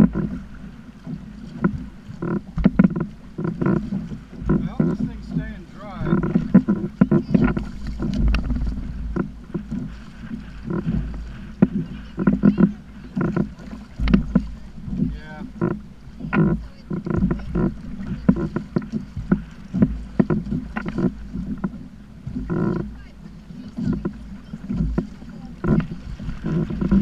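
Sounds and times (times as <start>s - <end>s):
short knocks on hull: 0.0s - 27.0s
water slapping against kayak hull: 0.0s - 27.0s.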